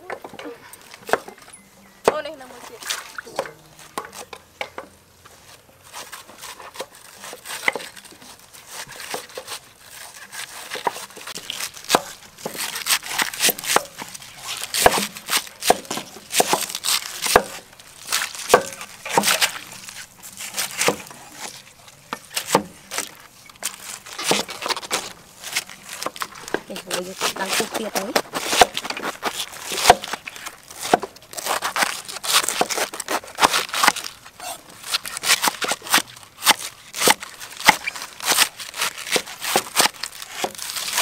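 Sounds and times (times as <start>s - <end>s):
knives crunching through cabbage: 5.4s - 41.0s.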